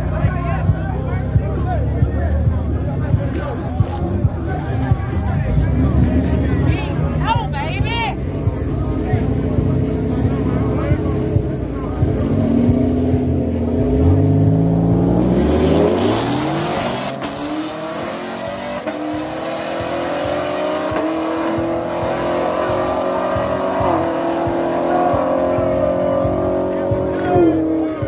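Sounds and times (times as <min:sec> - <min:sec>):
drag car engines revving hard: 0:04.8 - 0:28.0.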